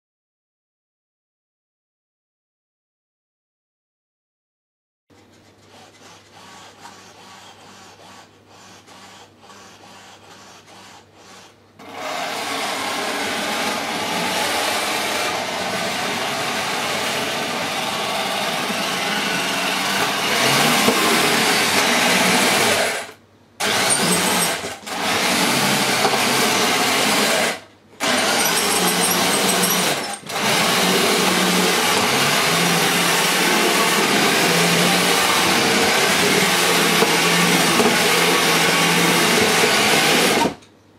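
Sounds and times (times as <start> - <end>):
electric motors and gearing running: 5.7 - 40.6.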